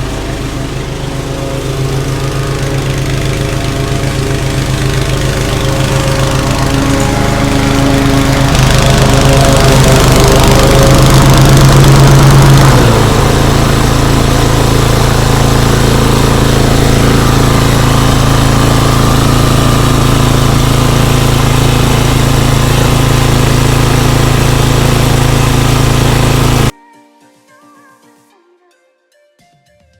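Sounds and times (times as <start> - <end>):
lawn mower engine running: 0.0 - 26.7.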